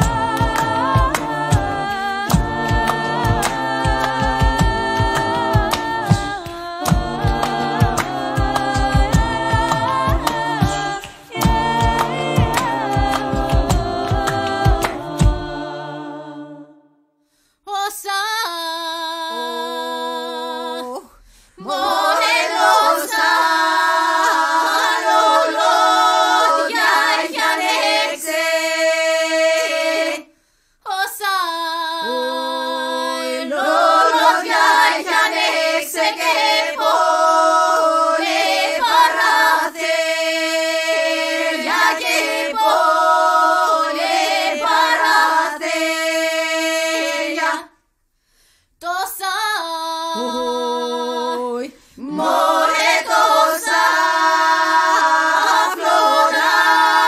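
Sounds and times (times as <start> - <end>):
women's choir singing a cappella: 0.0 - 17.0, 17.7 - 47.8, 48.8 - 57.0.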